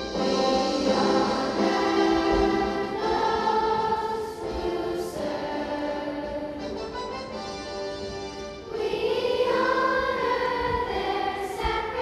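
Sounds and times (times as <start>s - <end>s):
children's chorus singing: 0.0s - 7.0s, 8.6s - 12.0s.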